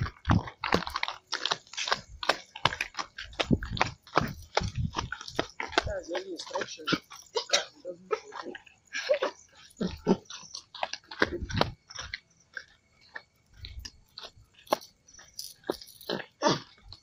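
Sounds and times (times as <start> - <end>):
footsteps on dirt path: 0.0 - 17.0.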